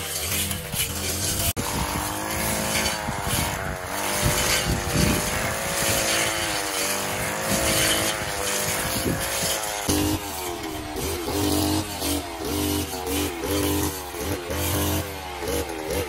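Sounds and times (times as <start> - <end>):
brush cutter cutting grass: 0.0 - 16.0.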